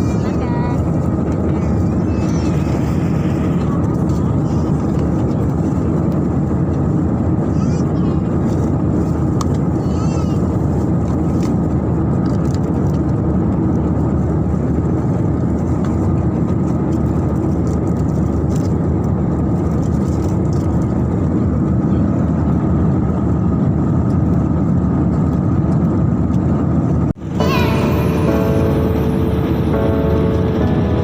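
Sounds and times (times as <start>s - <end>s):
airliner cabin engine drone: 0.0s - 31.0s.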